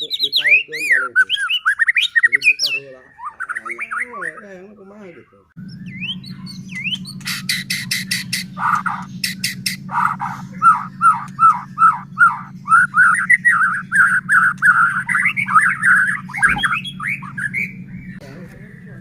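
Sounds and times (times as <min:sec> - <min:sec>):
songbird calling and chattering: 0:00.0 - 0:19.0
steady low hum: 0:00.0 - 0:19.0.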